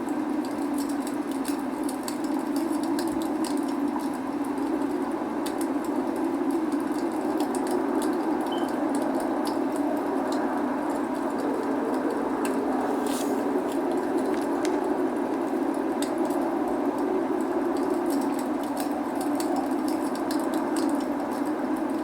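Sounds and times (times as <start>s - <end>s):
log fire crackling: 0.0s - 22.0s
rain rushing: 0.1s - 22.0s.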